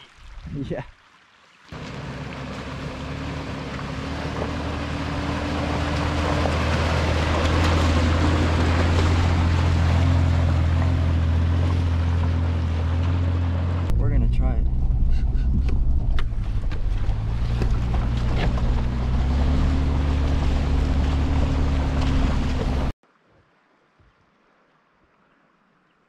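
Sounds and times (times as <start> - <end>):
tyres on wet track: 1.7 - 22.9
suv engine running: 1.8 - 22.9.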